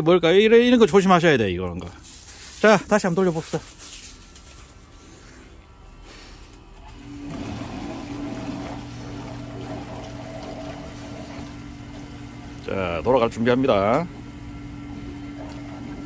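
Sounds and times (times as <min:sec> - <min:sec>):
burner blower fan humming: 0:00.0 - 0:16.0.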